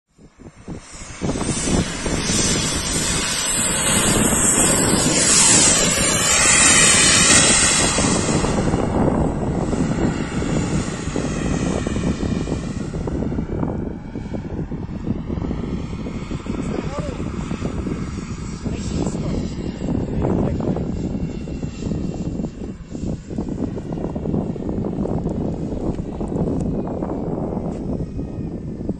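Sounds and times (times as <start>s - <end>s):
jet turbine hiss and whine: 0.1s - 28.9s
wind buffeting microphone: 0.1s - 28.9s.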